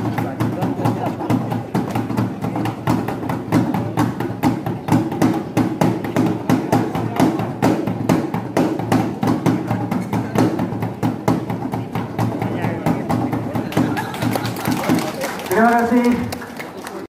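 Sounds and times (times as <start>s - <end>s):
drums beating quickly: 0.0s - 16.4s.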